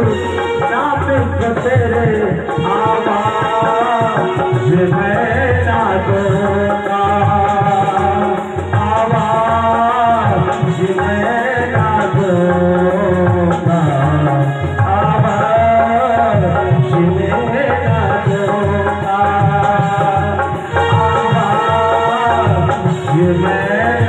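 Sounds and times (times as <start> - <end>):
electronic keyboard: 0.0 - 24.0
man singing: 0.0 - 24.0.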